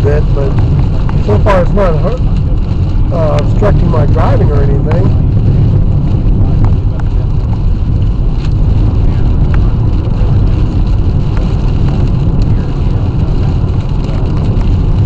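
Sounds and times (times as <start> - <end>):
road and engine rumble: 0.0 - 15.0
wind against car: 0.0 - 15.0.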